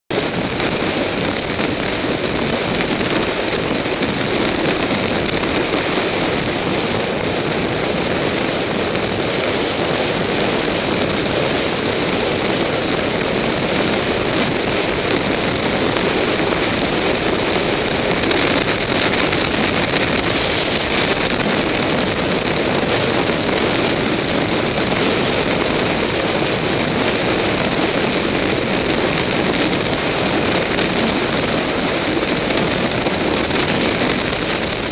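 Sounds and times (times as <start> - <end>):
road noise: 0.1 - 34.9
wind rush: 0.1 - 34.9
motorcycle engine cruising: 0.3 - 34.8.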